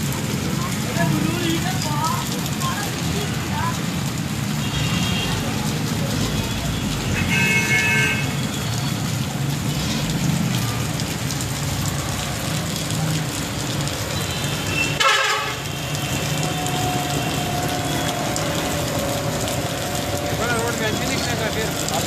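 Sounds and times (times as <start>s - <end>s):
traffic on a wet road: 0.0s - 22.0s.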